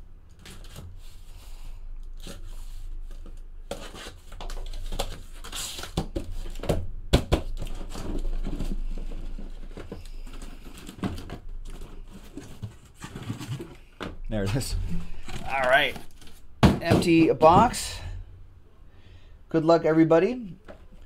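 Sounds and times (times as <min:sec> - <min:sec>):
cardboard rustling and scraping: 0:00.3 - 0:18.2.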